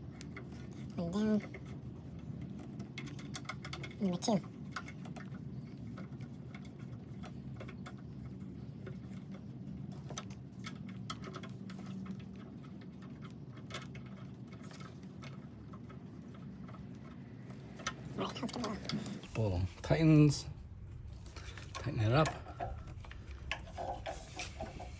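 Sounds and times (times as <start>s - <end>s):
faint steady hum: 0.0s - 24.9s.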